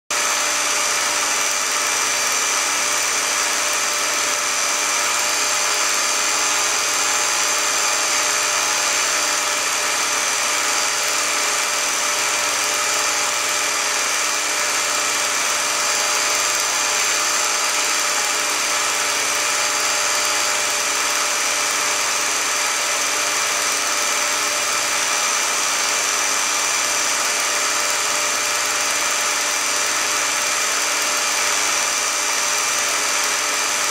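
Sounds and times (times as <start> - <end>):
film projector whirring: 0.1 - 33.9.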